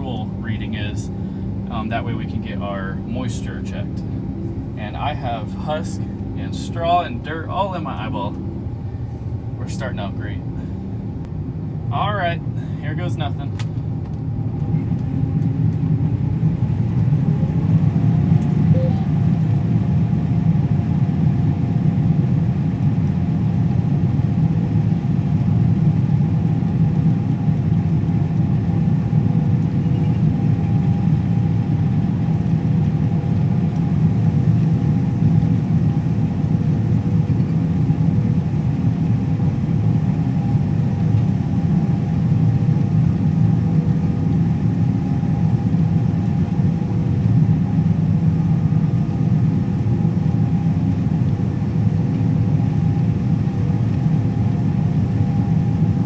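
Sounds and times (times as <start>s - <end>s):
combine harvester engine drone: 0.0s - 56.0s
steady machine whine: 0.0s - 56.0s.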